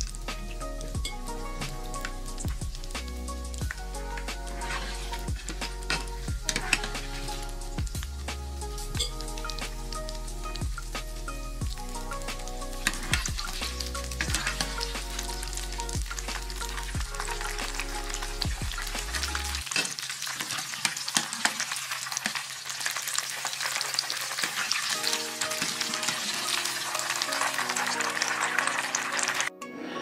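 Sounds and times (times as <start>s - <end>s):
deep-frying sizzle and pops: 0.0s - 29.5s.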